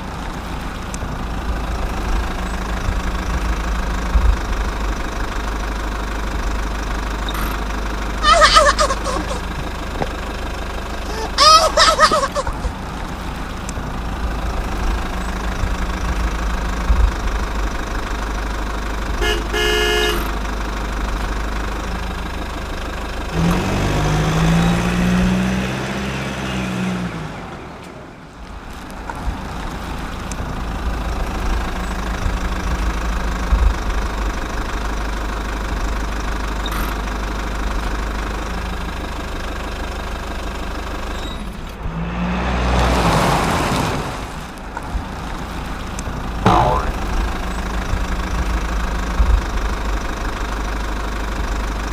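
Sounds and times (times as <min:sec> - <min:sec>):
vehicle engine running: 0:00.0 - 0:26.4, 0:27.0 - 0:43.0, 0:44.4 - 0:51.9.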